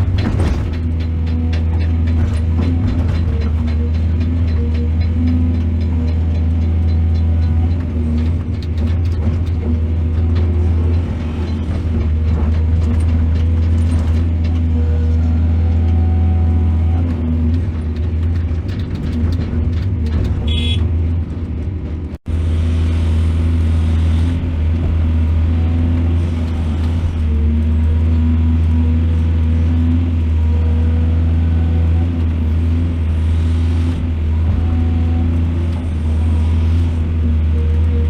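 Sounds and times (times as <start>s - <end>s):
excavator diesel engine rumbling: 0.0s - 38.0s.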